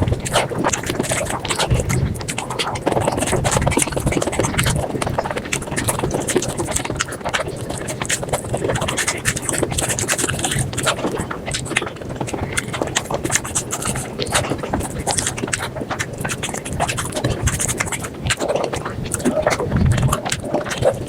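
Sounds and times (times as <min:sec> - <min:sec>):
sped-up chewing and smacking: 0:00.0 - 0:21.0.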